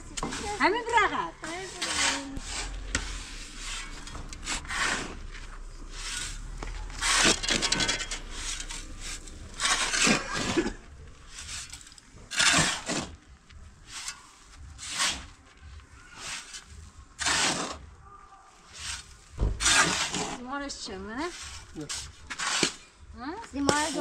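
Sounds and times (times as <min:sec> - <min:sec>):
rough scraping strokes: 0:00.1 - 0:23.0, 0:23.7 - 0:24.0.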